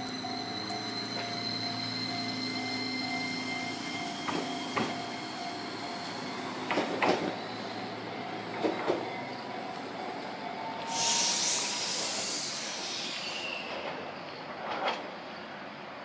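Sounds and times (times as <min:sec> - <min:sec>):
tram wheels clanking over rail joints: 0:00.0 - 0:11.0, 0:13.4 - 0:15.3
tram electric whine: 0:00.0 - 0:16.0.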